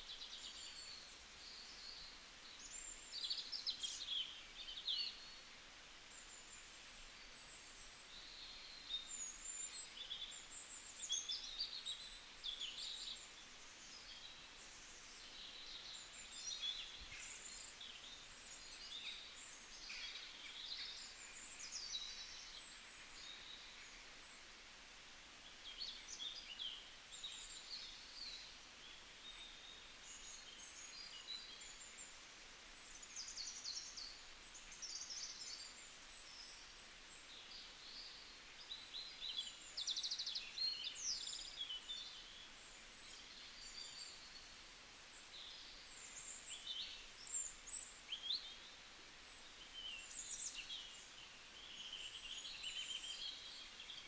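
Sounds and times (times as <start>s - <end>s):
small birds chirping: 0.0s - 24.4s, 25.4s - 54.0s
faint steady hiss: 0.0s - 54.0s.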